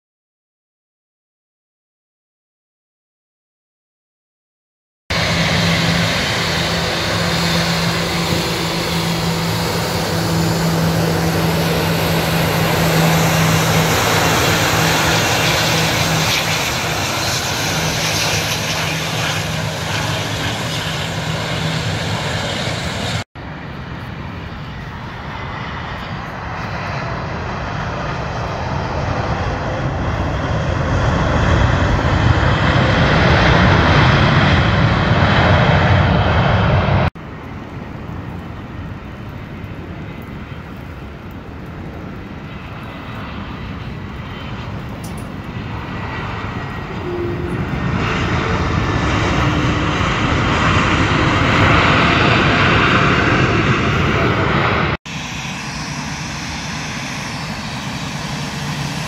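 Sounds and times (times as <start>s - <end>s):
jet engines running loud: 5.1s - 59.0s
second jet engine noise: 5.1s - 59.0s.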